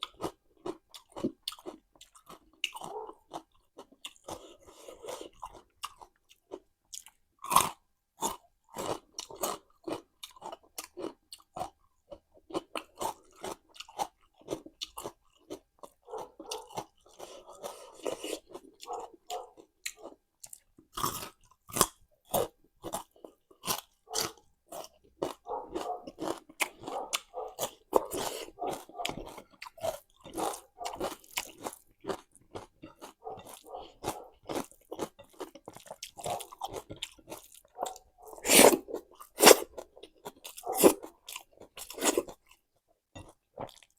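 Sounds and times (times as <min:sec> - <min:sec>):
person crunching food: 0:00.0 - 0:43.9
wet chewing: 0:00.0 - 0:43.9.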